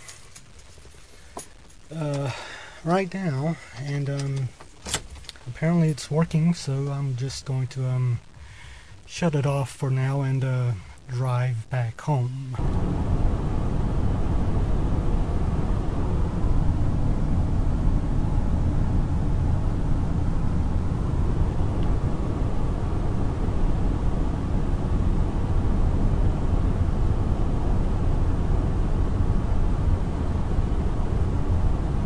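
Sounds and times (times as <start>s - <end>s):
car interior rumble: 0.0s - 8.4s, 10.4s - 32.0s.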